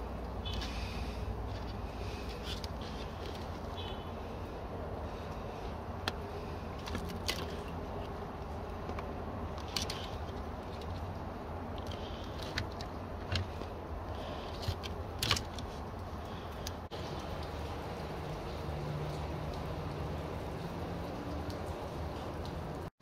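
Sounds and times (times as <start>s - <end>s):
wires rustling: 0.0s - 19.7s.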